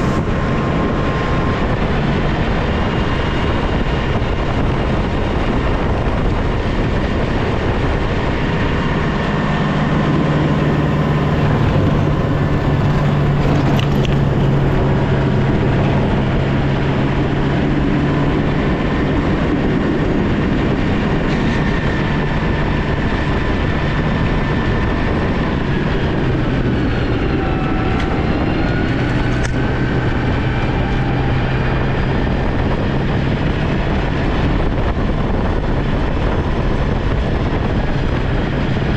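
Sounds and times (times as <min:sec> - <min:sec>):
high engine whine: 0:00.0 - 0:38.9
snow plow engine running: 0:00.0 - 0:38.9.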